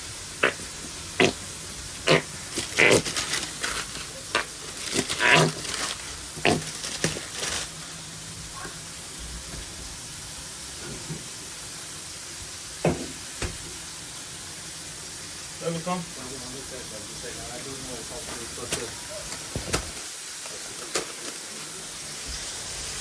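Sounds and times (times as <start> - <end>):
food sizzling on a griddle: 0.0 - 23.0.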